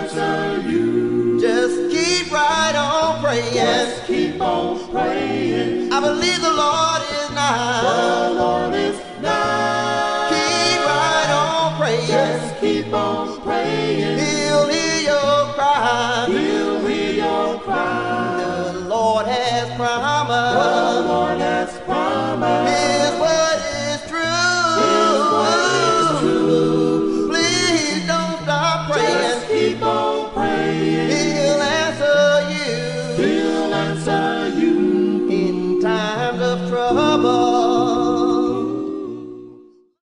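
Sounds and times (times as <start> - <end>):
gospel singing in harmony: 0.0 - 40.0.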